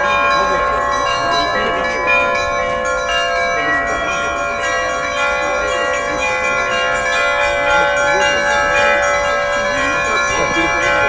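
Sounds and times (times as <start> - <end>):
church bells ringing together: 0.0 - 11.0.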